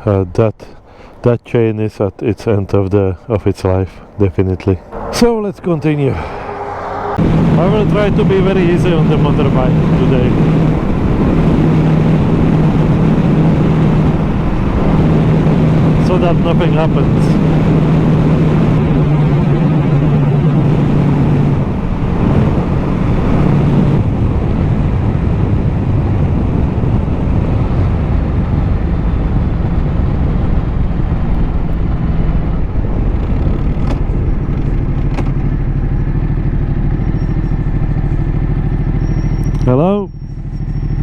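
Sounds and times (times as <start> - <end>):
wind rushing over microphone: 2.8 - 41.0
motorcycle engine: 4.7 - 41.0.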